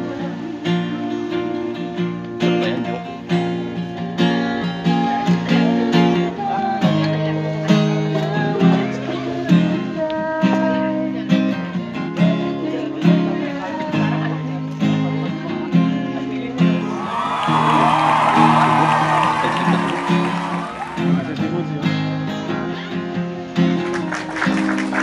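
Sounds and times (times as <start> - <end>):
acoustic guitar strummed chords: 0.0 - 25.0.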